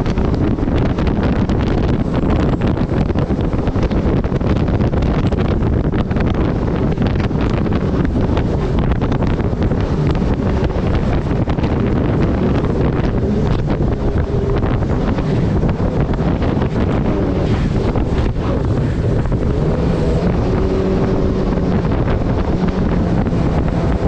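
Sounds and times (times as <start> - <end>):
boat engine running: 0.0 - 24.0
rushing water: 0.0 - 24.0
wind buffeting microphone: 0.0 - 24.0.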